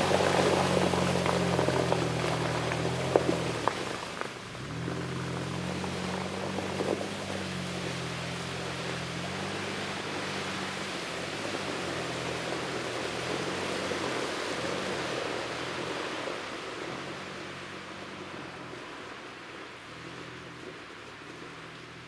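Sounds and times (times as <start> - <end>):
wheels churning through mud: 0.0 - 22.0.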